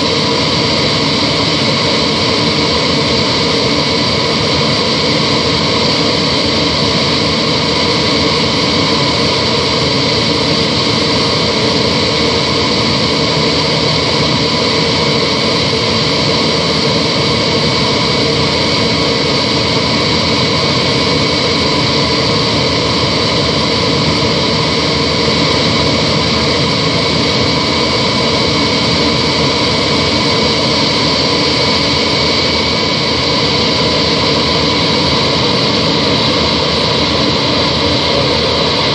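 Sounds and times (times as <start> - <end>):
airliner cabin air rush: 0.0 - 38.9
jet engines whining: 0.0 - 38.9.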